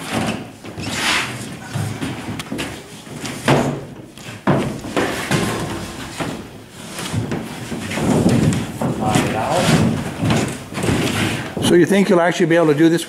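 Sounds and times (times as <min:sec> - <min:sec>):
plywood panel flexing and knocking: 0:00.0 - 0:12.0
rustling and scraping: 0:00.0 - 0:12.8.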